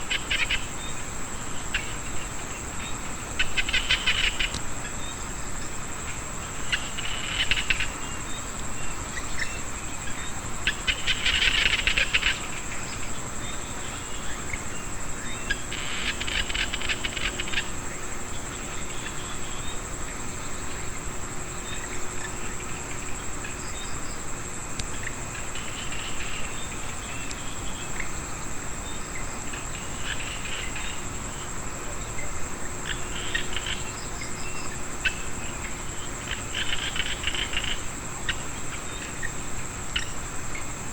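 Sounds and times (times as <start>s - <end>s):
frogs croaking: 0.0s - 40.9s
high-pitched insect trill: 0.0s - 40.9s.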